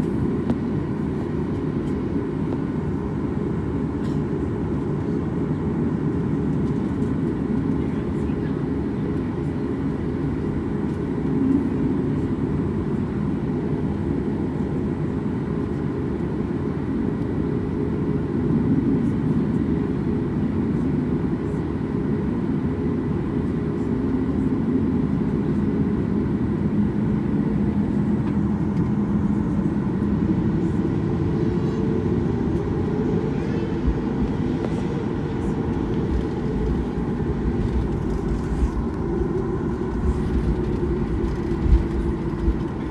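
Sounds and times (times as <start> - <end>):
jet engine rumble: 0.0 - 42.9.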